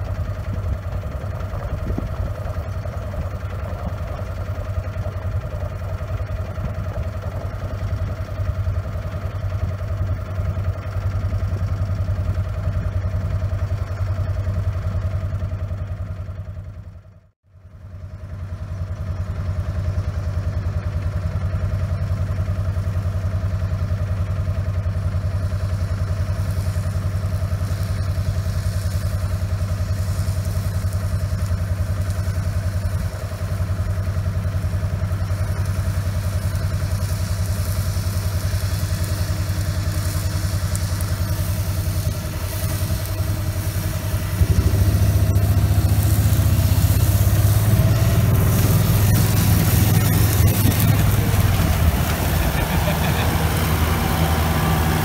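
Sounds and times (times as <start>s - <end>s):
rotary mower cutting grass: 0.0s - 55.0s
tractor engine running: 0.0s - 55.0s.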